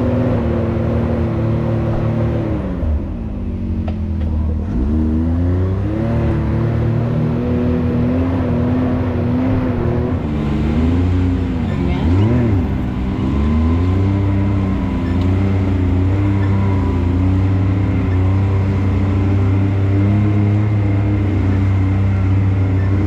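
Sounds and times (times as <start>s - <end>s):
vehicle engine at low throttle: 0.0s - 23.0s.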